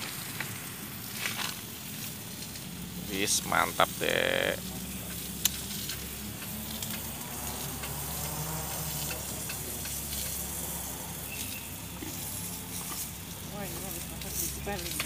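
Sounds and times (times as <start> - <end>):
food sizzling in a pan: 0.0 - 15.0
small crackles: 0.0 - 15.0.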